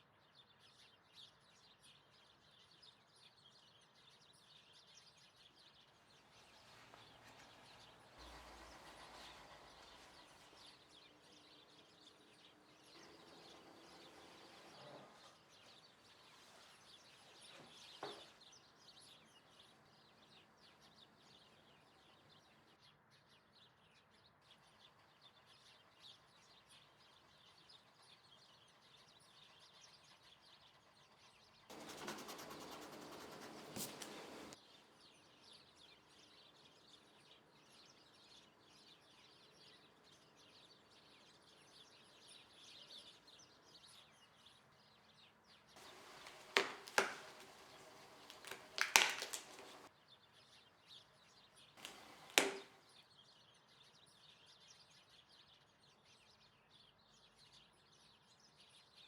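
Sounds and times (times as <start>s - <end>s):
faint birds chirping: 1.6s - 54.6s.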